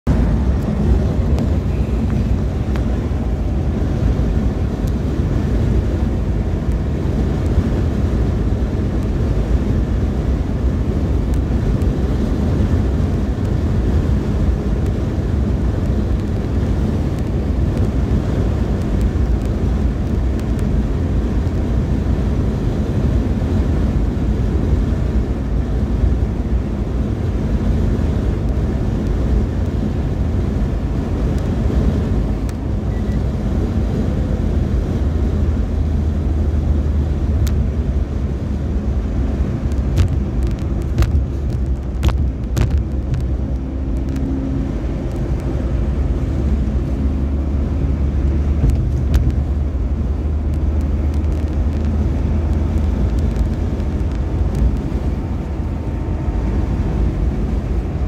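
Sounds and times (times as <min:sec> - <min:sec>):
vehicle driving on road: 0:00.0 - 0:58.0
wind buffeting microphone: 0:00.1 - 0:58.0.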